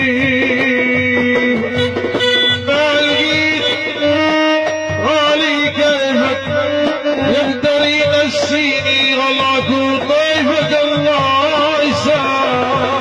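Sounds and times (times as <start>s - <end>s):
steady drum beat: 0.0s - 13.0s.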